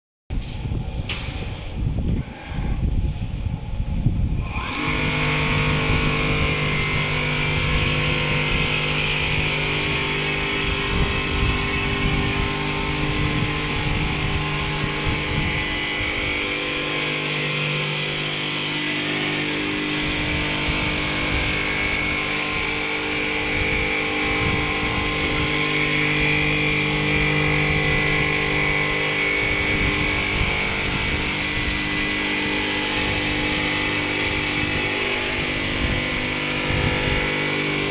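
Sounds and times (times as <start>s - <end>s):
quilting machine mechanical hum: 0.3s - 37.9s.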